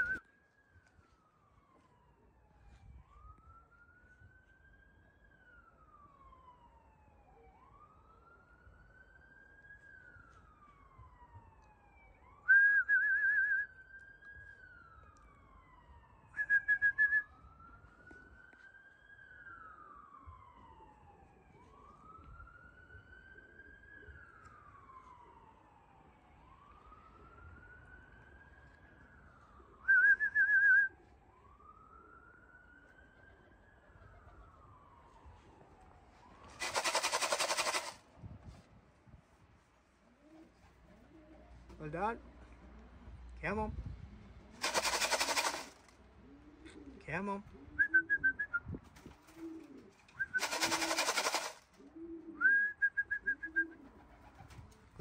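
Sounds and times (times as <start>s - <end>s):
faint siren wailing: 0.0s - 55.0s.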